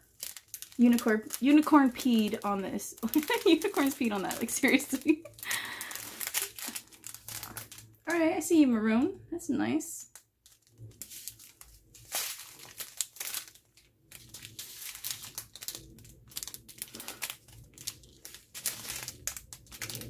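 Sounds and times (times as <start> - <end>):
plastic bags crinkling: 0.0 - 8.1, 10.0 - 20.0.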